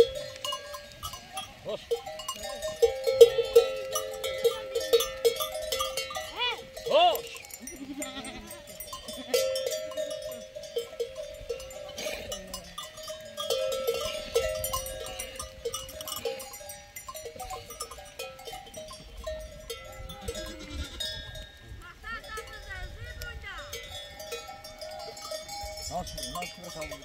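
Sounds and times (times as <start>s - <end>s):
livestock bells clanking: 0.0s - 27.0s.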